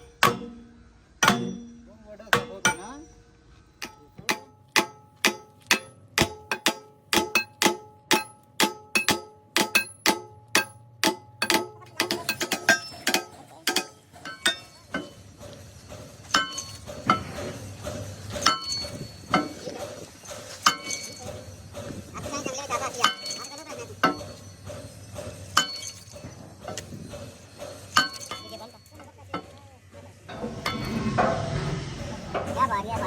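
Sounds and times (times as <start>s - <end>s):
hammer clanging on metal: 0.0s - 3.2s, 3.8s - 29.6s.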